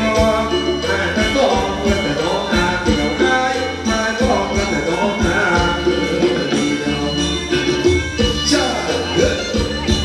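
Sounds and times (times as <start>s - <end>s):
drum beat: 0.0s - 10.0s
live band dance music: 0.0s - 10.0s.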